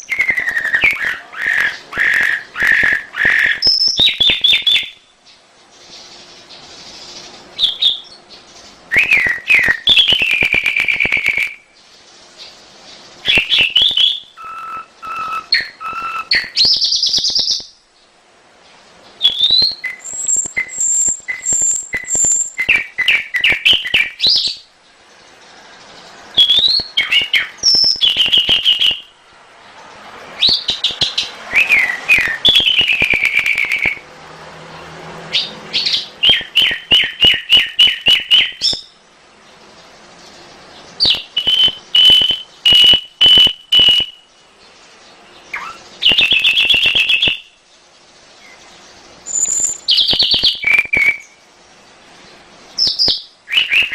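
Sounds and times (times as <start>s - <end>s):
canary singing: 0.0s - 29.2s, 30.1s - 34.2s, 35.2s - 53.9s.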